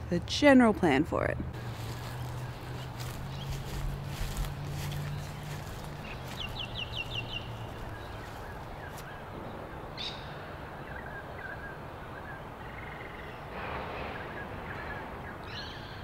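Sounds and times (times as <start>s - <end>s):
steady background noise: 0.0s - 16.0s
birds chirping and trilling: 1.6s - 16.0s.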